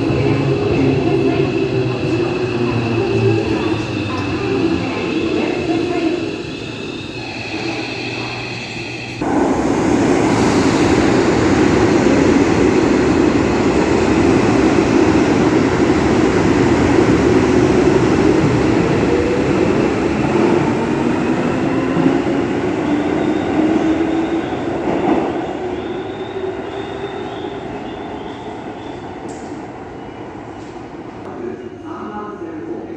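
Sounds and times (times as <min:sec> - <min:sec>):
electric train passing: 0:00.0 - 0:29.6.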